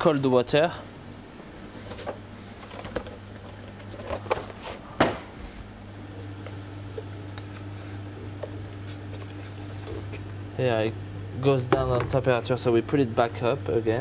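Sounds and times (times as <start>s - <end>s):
kitchen equipment hum: 0.0s - 14.0s.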